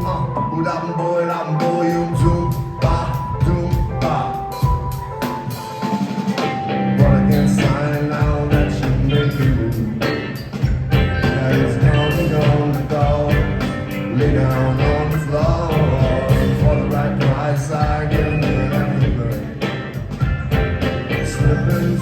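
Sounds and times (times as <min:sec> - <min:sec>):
live rock band playing: 0:00.0 - 0:22.0
steady drum beat: 0:01.6 - 0:22.0.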